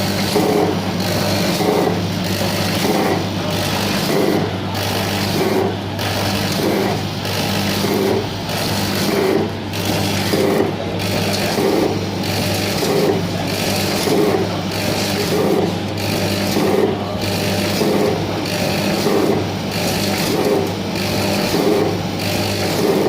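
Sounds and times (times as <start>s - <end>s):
packing machine mechanical cycle: 0.0s - 23.0s.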